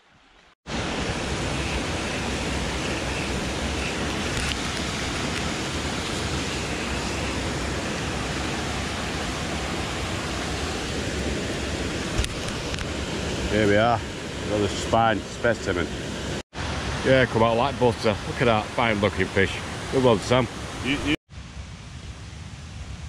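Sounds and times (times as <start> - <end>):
stream running over stones: 0.1 - 15.9, 16.6 - 21.2.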